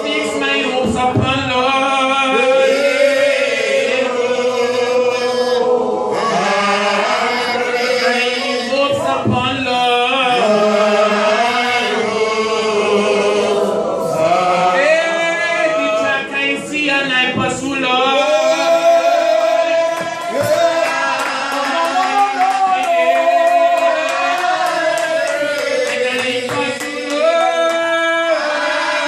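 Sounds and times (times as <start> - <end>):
man singing into microphone: 0.0 - 29.0.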